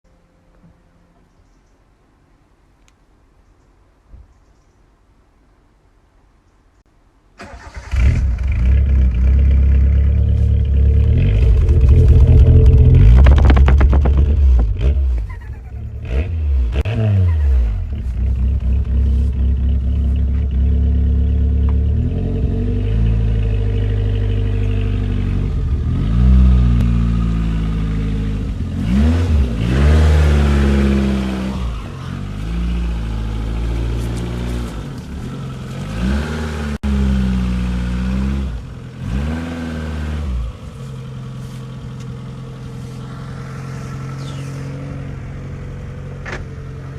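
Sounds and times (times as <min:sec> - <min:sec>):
car engine revving: 0:07.4 - 0:46.9
car engine starting: 0:07.4 - 0:46.9.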